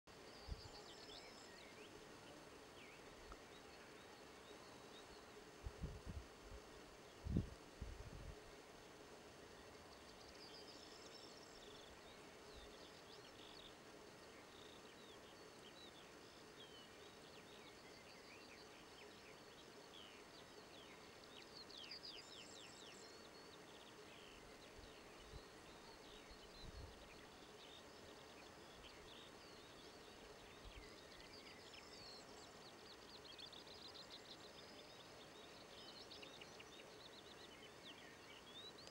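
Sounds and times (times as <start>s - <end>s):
faint steady hiss: 0.1s - 38.9s
small birds chirping: 0.1s - 38.9s.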